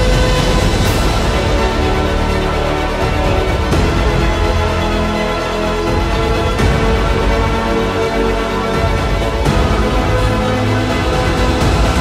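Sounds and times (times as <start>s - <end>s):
orchestral music with held tones: 0.0s - 12.0s.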